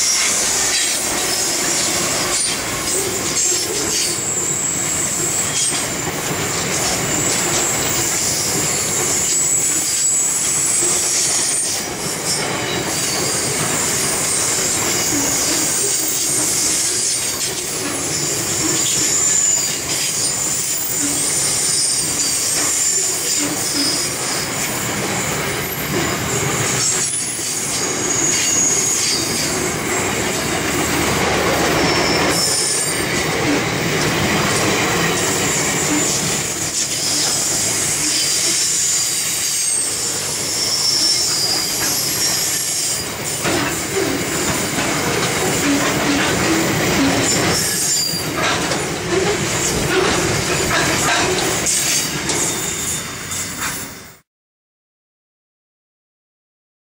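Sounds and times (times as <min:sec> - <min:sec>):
wheel flanges squealing: 0:00.0 - 0:53.9
train wheels rumbling on rail: 0:00.0 - 0:54.2.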